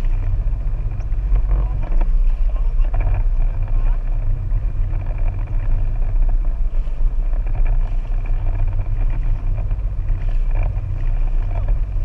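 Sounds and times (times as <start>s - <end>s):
jet ski engine rumbling: 0.0s - 12.0s.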